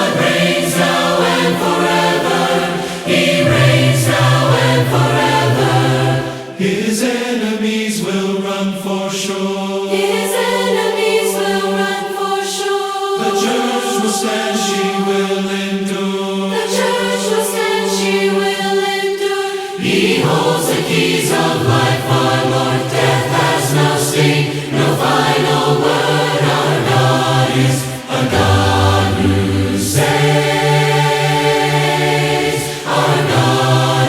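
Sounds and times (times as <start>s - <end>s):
choir singing hymn: 0.0s - 34.0s.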